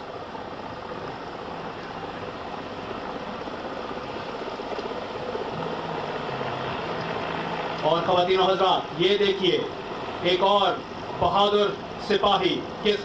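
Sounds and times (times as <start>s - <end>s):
helicopter hovering: 0.0s - 13.0s.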